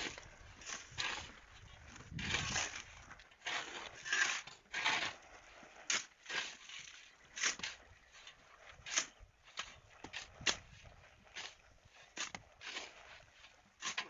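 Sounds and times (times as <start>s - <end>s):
gritty scrapes and crunches: 0.0s - 14.0s.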